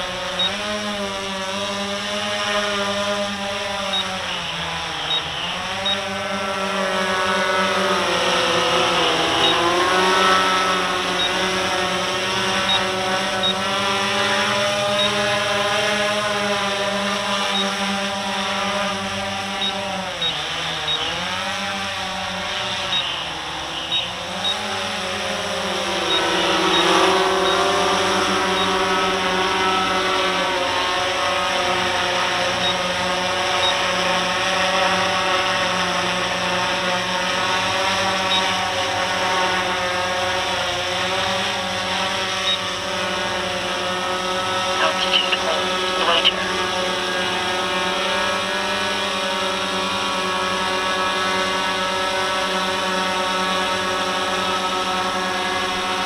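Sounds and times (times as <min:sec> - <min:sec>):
drone motors whining in hover: 0:00.0 - 0:56.0.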